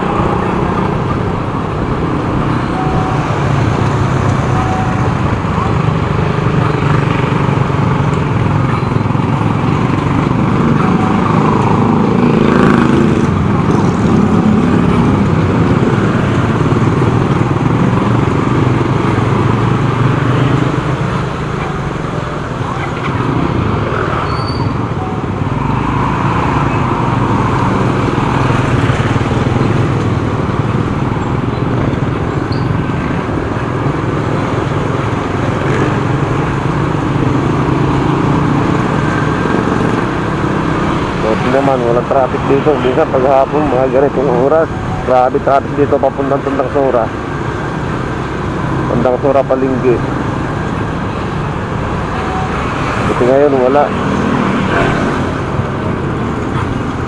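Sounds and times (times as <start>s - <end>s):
road and traffic noise: 0.0s - 57.0s.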